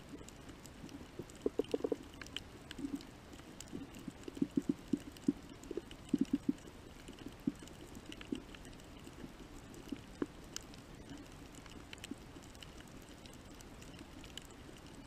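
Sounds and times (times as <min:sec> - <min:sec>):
clicks and crackles: 0:00.0 - 0:15.0.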